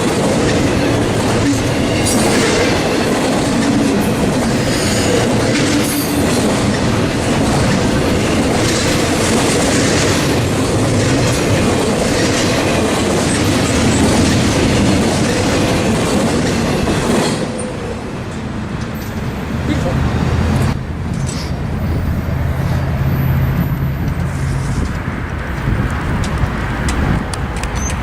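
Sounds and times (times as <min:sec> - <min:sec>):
clickety-clack of rail joints: 0:00.0 - 0:20.0, 0:23.4 - 0:28.0
train wheels rumbling on rails: 0:00.0 - 0:28.0.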